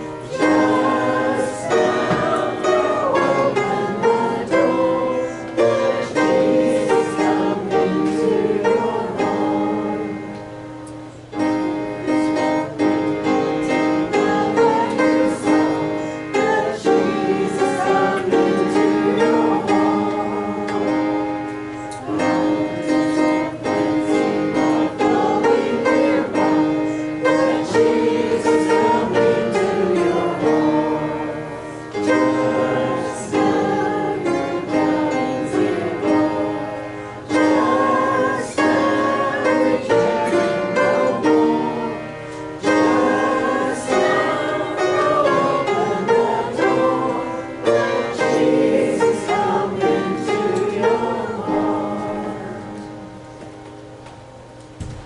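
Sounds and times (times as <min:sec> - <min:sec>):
congregation singing a hymn: 0:00.0 - 0:55.0
instrumental accompaniment: 0:00.0 - 0:55.0.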